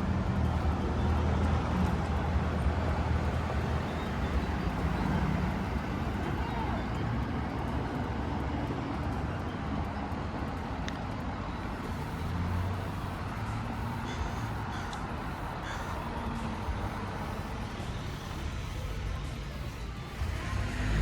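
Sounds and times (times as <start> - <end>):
vehicle road noise rumble: 0.0 - 21.0.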